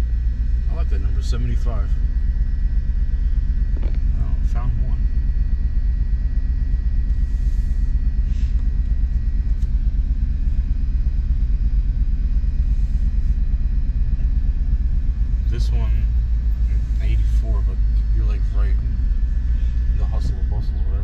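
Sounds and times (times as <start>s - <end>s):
vehicle engine and tyres rumbling: 0.0s - 21.0s.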